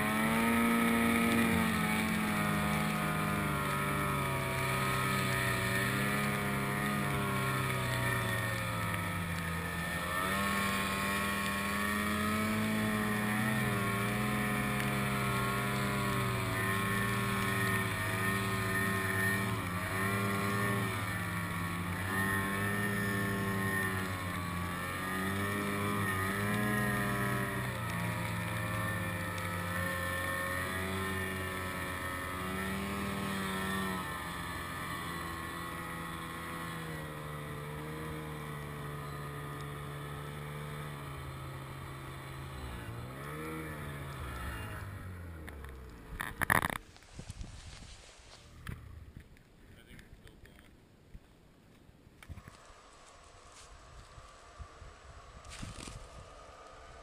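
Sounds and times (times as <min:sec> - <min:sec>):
snowmobile engine revving: 0:00.0 - 0:49.2.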